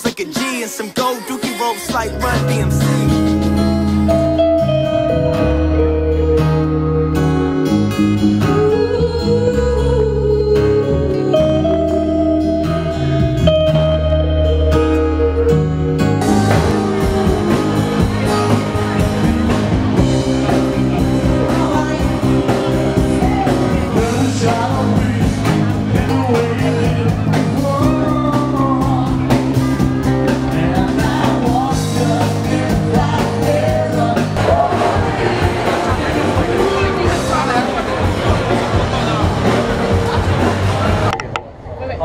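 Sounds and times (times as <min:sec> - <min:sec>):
person singing: 0:00.0 - 0:40.9
song with guitar and beat: 0:00.0 - 0:41.4.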